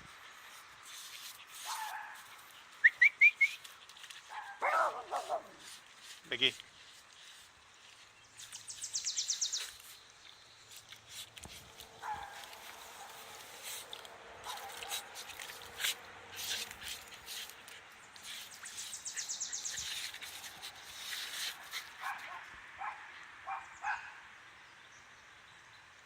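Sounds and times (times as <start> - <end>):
dog paws scratching wet dirt: 0.0 - 24.1.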